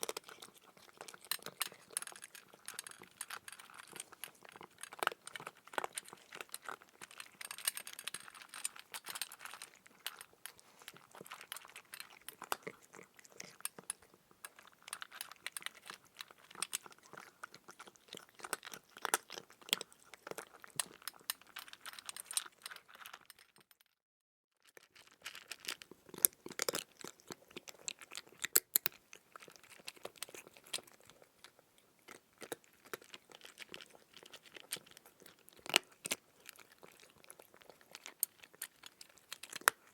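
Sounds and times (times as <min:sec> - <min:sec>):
crunchy food being chewed: 0:00.0 - 0:23.9, 0:24.6 - 0:39.9.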